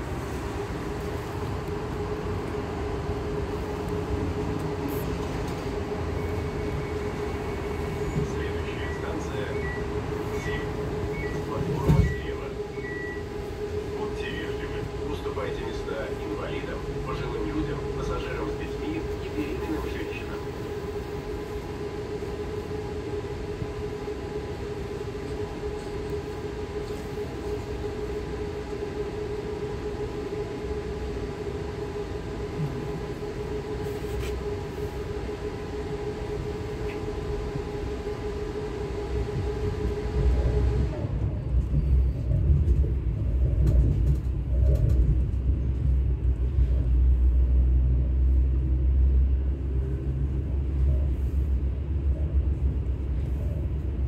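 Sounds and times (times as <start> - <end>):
high whine: 0.0 - 43.5
electric train ride noise: 0.0 - 54.0.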